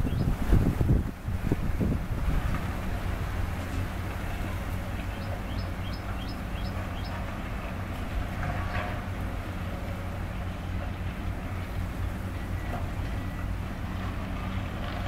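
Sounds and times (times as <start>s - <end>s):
diesel excavator engines: 0.0s - 15.0s.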